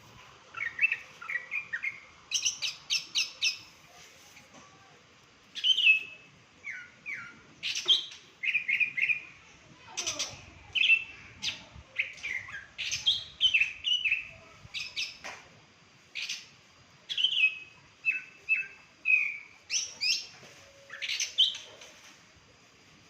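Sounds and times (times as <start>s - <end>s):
songbird chirping: 0.2s - 15.3s, 16.0s - 22.2s.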